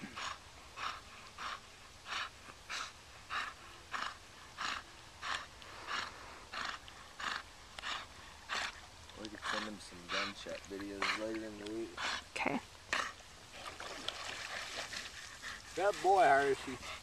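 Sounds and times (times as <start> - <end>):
rhythmic panting breaths: 0.0 - 13.7, 14.7 - 17.0.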